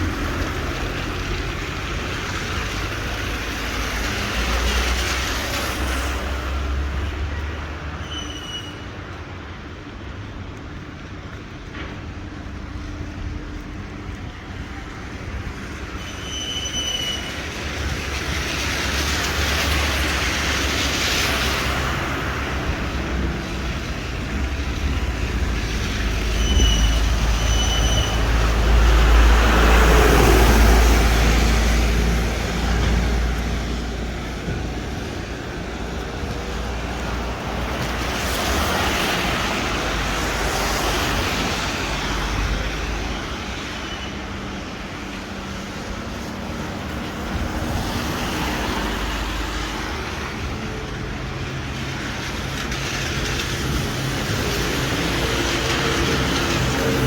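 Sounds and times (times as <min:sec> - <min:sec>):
tyres hissing on wet road: 0:00.0 - 0:57.0.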